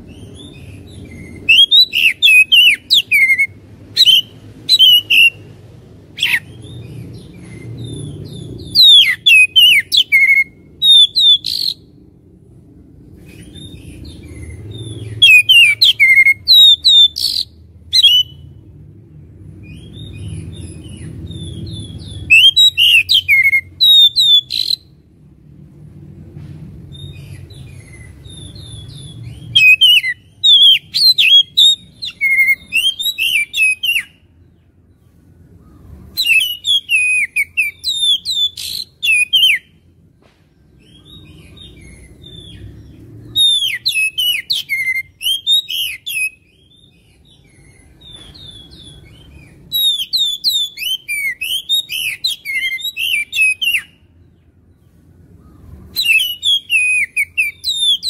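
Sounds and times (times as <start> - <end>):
magpie-robin singing: 0.0 - 12.0, 13.2 - 18.6, 19.6 - 25.0, 26.9 - 34.6, 35.5 - 39.9, 40.8 - 58.0.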